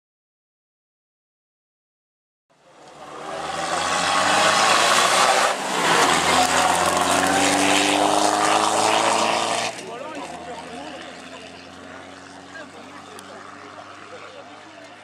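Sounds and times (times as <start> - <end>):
car engine at high revs: 2.6 - 15.0.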